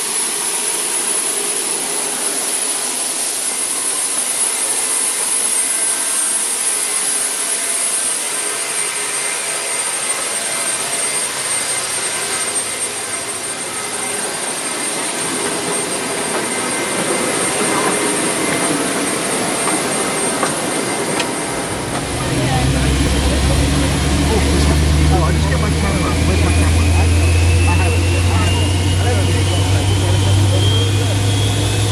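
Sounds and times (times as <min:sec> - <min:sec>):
jet engines whining and roaring: 0:00.0 - 0:31.9.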